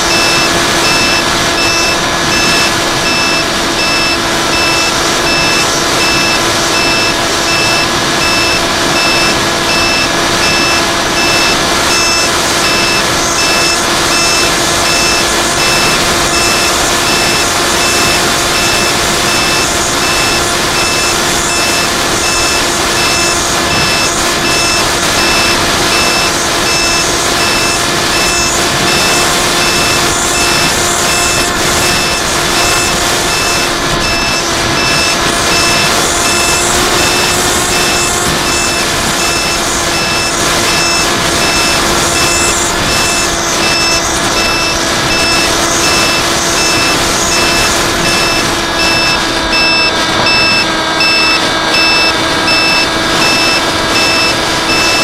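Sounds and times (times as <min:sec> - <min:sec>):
high electronic beep: 0:00.0 - 0:55.0
loud rushing noise: 0:00.0 - 0:55.0.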